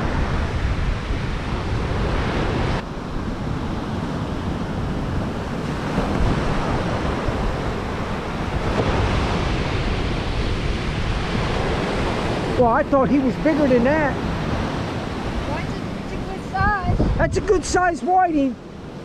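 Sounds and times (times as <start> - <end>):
breaking surf: 0.0 - 19.0
wind buffeting microphone: 0.0 - 19.0.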